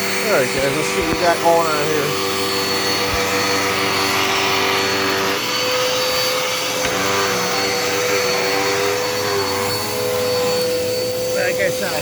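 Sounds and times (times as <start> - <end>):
upright vacuum cleaner whine: 0.0 - 12.0.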